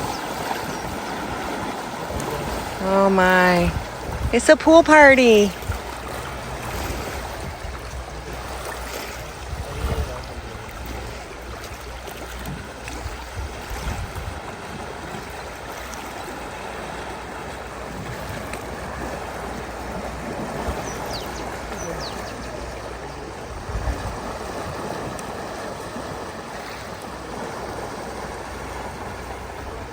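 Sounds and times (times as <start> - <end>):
river water flowing: 0.0 - 29.9
wind rumble on microphone: 0.0 - 29.9.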